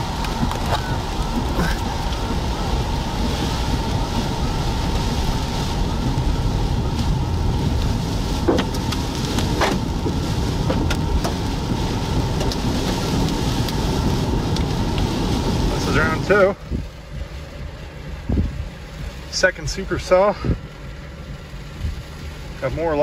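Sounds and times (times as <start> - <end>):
hailstones knocking on car: 0.0 - 23.0
road and tyre noise in car: 0.0 - 23.0.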